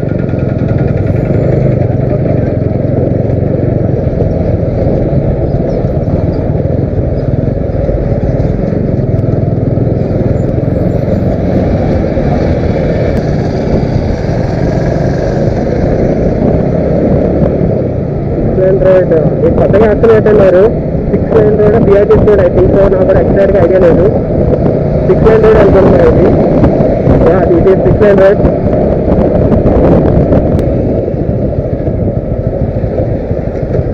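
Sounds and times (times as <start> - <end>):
motorcycle engine rumble: 0.0 - 33.9.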